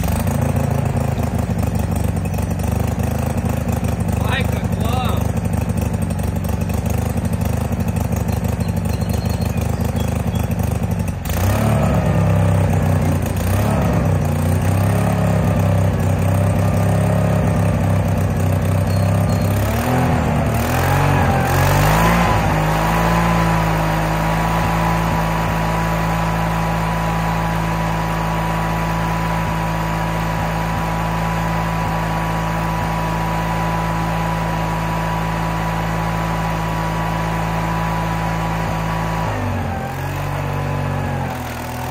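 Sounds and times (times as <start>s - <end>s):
skid steer engine running: 0.0s - 41.9s.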